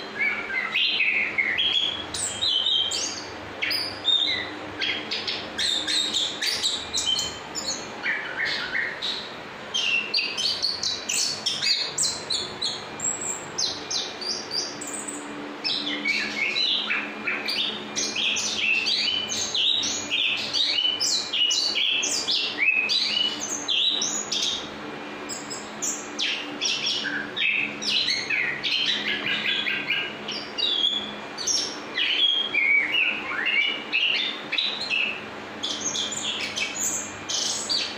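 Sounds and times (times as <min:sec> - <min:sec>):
thrush singing chirps and whistles: 0:00.0 - 0:37.9.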